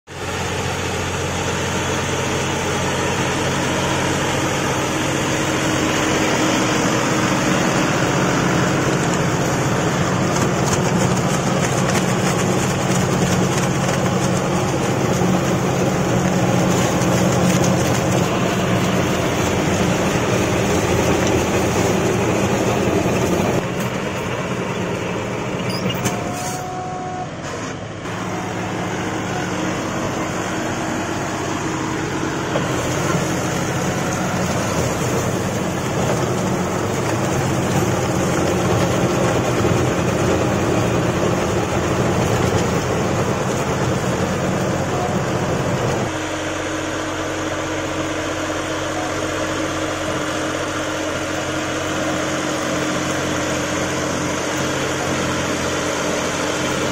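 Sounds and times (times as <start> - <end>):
tractor diesel engine under load: 0.1 - 56.9
rotavator blades churning soil: 1.2 - 25.6, 28.1 - 56.9.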